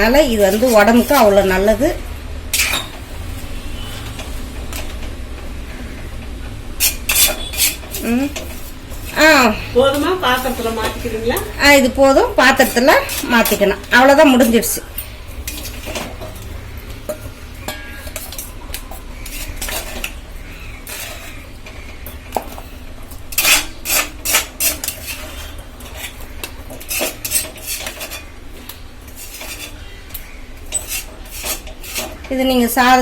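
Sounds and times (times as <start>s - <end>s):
metal spoon scraping a pan: 0.0s - 1.9s, 2.5s - 5.0s, 6.7s - 33.0s.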